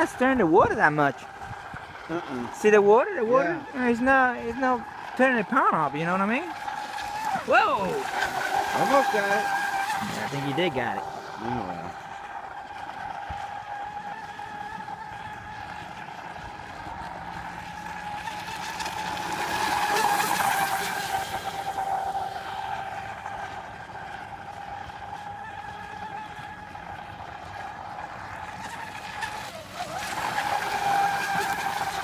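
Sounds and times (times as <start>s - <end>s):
model boat motor whine: 0.0s - 32.0s.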